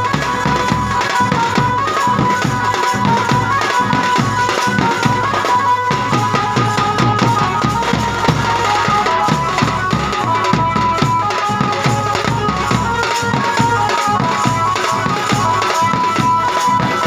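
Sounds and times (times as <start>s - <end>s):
fast dense drumming: 0.0s - 17.0s
held melody line: 0.0s - 17.0s.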